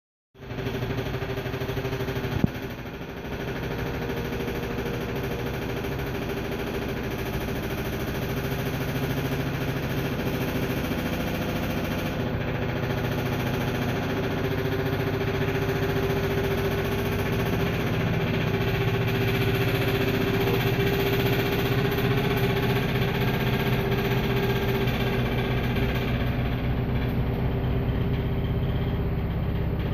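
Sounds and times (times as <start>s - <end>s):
washing machine hum: 0.4s - 29.9s
washing machine rapid tapping: 0.4s - 29.9s.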